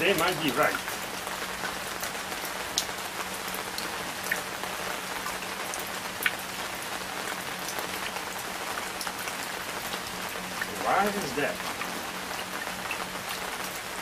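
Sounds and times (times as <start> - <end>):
rain on hard surfaces: 0.0 - 14.0.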